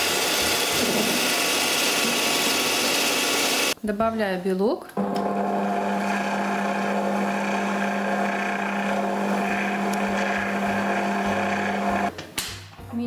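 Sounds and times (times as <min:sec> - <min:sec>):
stand mixer motor humming: 0:00.0 - 0:03.8, 0:05.0 - 0:12.1.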